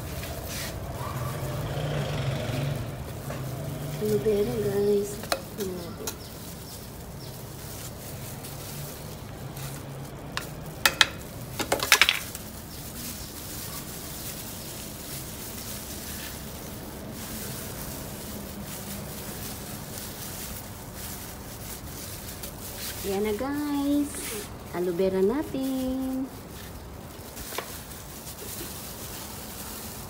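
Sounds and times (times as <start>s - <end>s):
hands firming potting soil: 0.0s - 1.7s, 3.0s - 30.0s
plastic gloves crackling: 0.0s - 30.0s.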